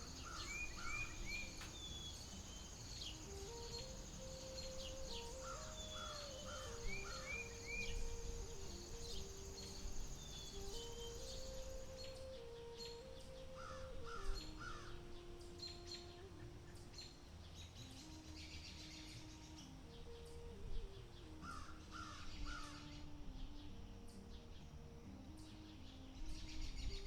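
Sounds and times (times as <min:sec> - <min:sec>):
bird harsh calls: 0:00.0 - 0:27.0
high chirping: 0:00.0 - 0:27.0
soft background melody: 0:00.0 - 0:27.0.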